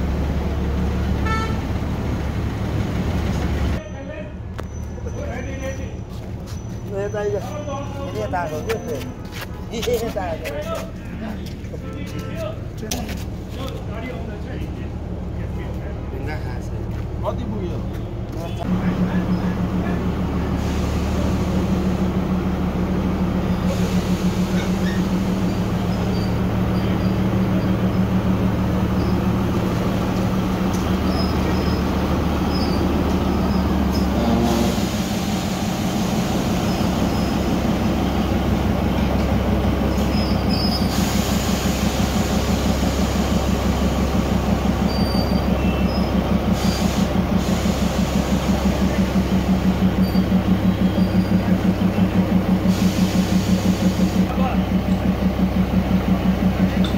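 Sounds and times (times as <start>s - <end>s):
diesel locomotive engine throbbing: 0.0s - 3.8s, 4.9s - 56.9s.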